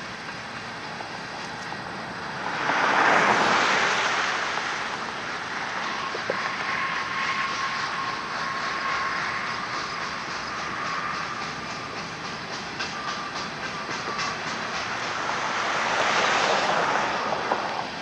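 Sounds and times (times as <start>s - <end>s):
thin steady wheel squeal: 0.0s - 18.0s
train wheels rumbling on rail: 0.0s - 18.0s
wheels clicking over rail joints: 0.0s - 18.0s.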